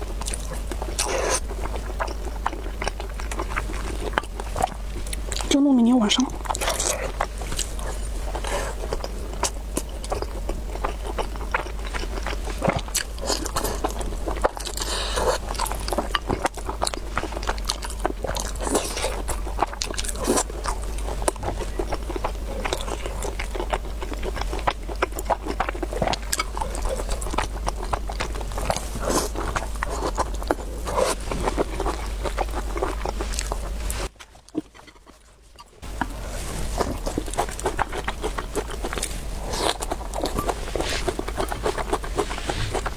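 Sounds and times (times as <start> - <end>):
faint low hum: 0.0 - 42.9
wet chewing and crunching: 0.0 - 42.9.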